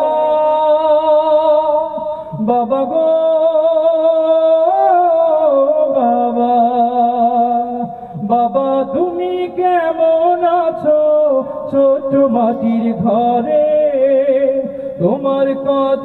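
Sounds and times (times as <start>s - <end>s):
man singing long notes: 0.0s - 16.0s.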